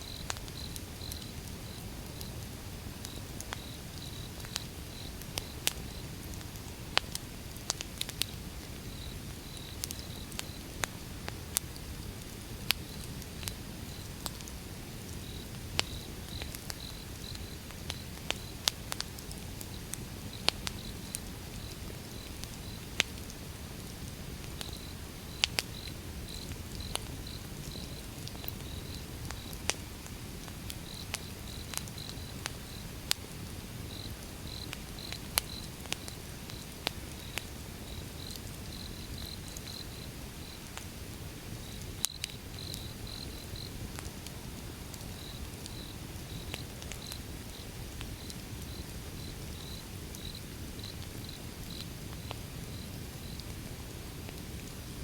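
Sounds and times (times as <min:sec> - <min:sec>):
wood fire crackling and popping: 0:00.1 - 0:55.0.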